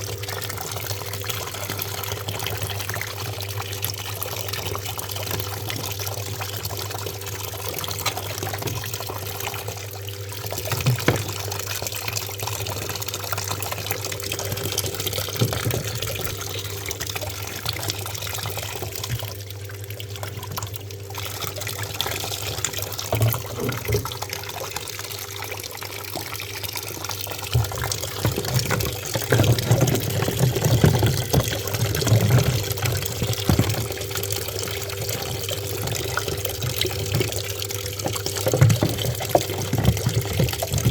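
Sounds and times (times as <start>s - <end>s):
washing machine low hum: 0.0s - 40.9s
water splashing into washing machine: 0.0s - 40.9s.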